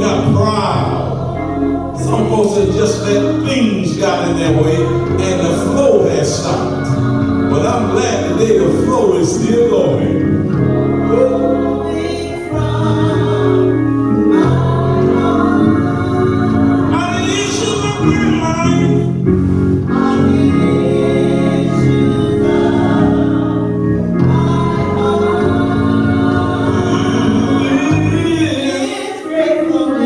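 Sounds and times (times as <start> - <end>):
church choir singing: 0.0 - 30.0
organ chords: 0.0 - 30.0.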